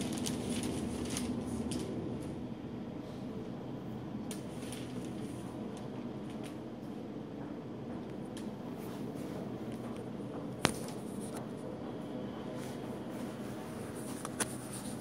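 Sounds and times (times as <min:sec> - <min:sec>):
low indoor hum: 0:00.0 - 0:15.0.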